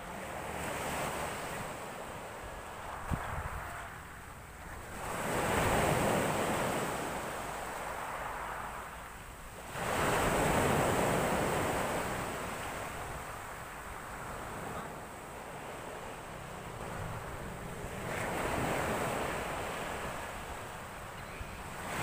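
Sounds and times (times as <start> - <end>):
sea waves breaking on shore: 0.0 - 22.0.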